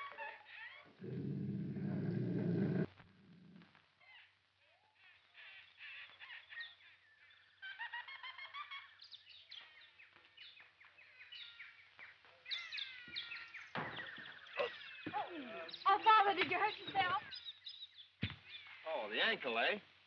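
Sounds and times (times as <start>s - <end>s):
jungle birds calling: 0.0s - 7.8s, 8.8s - 18.9s.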